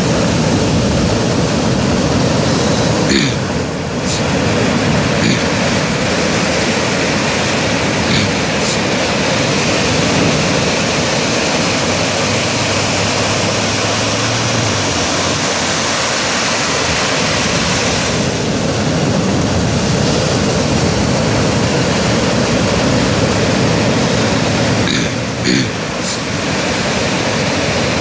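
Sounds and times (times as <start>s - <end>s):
surf breaking on beach: 0.0s - 28.0s.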